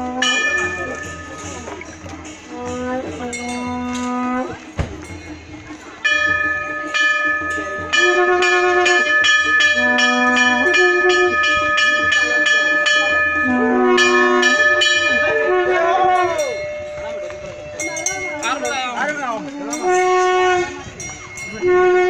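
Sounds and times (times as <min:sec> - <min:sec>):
bells struck rapidly: 0:00.0 - 0:22.0
low repeating melody: 0:00.0 - 0:22.0.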